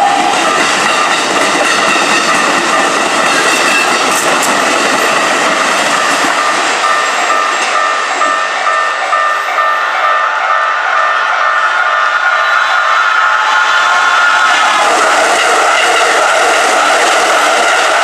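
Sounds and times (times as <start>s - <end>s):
crossing warning bell ringing: 0.0s - 18.0s
electric train rumbling: 0.0s - 18.0s.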